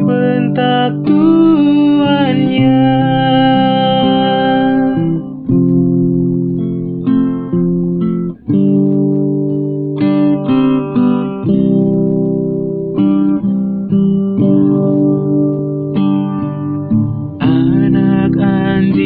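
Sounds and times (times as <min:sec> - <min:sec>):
guitar chords ringing: 0:00.0 - 0:19.0.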